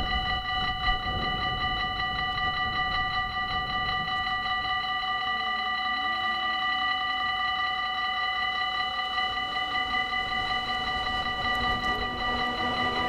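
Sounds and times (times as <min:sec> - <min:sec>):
level crossing warning bells ringing: 0:00.0 - 0:13.0.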